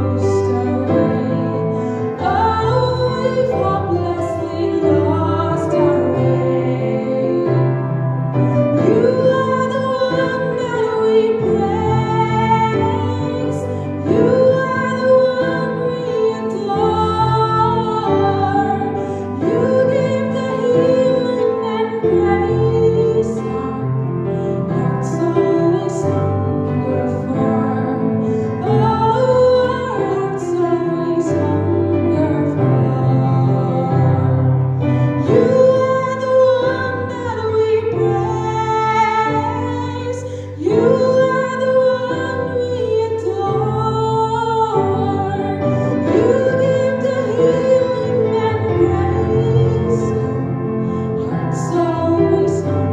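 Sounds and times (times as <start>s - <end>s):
woman singing into microphone: 0.0s - 52.9s.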